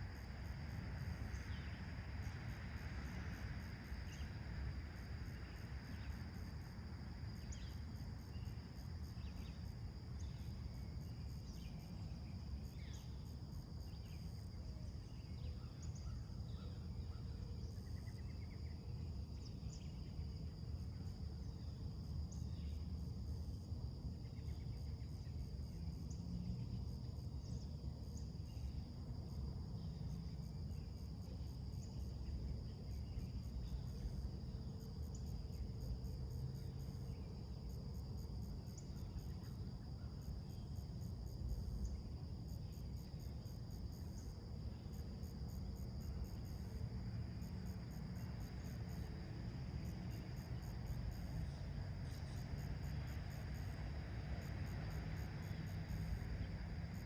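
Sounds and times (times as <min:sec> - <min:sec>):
crickets and insects droning: 0:00.0 - 0:57.0.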